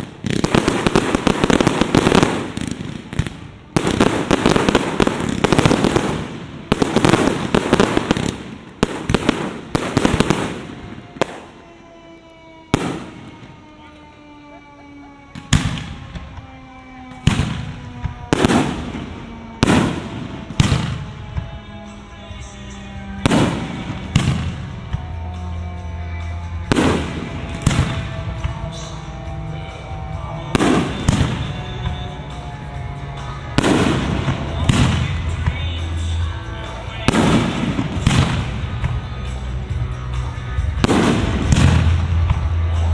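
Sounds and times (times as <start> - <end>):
fireworks booming and crackling: 0.0 - 42.9.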